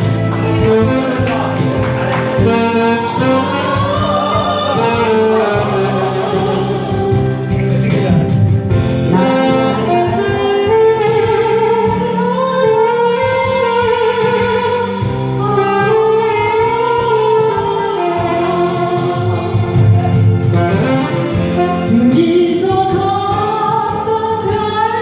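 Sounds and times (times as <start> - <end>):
saxophone melody: 0.0 - 23.6
band accompaniment: 0.0 - 25.0.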